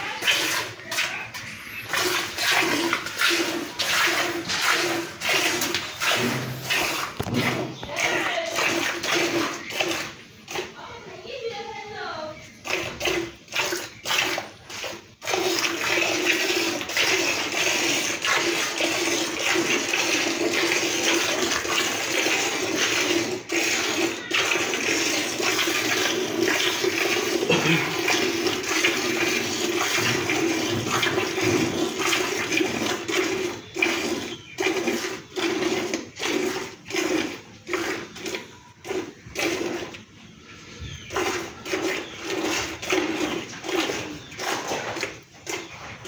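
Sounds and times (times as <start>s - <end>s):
milk squirting into a pail: 0.0s - 11.0s, 12.4s - 40.3s, 40.9s - 46.0s.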